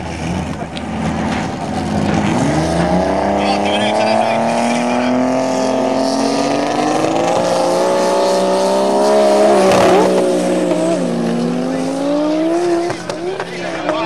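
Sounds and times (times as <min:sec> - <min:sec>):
drag racing engines revving: 0:00.0 - 0:14.0.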